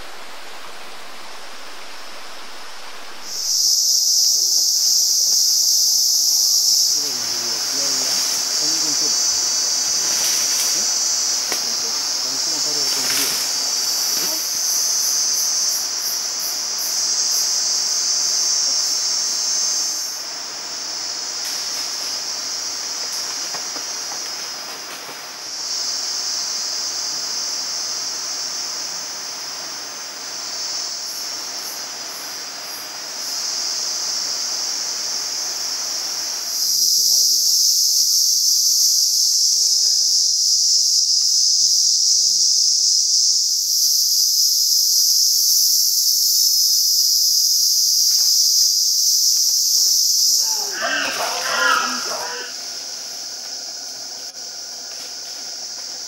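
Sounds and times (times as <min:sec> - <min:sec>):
high-pitched insect chorus buzzing: 0:00.0 - 0:56.0.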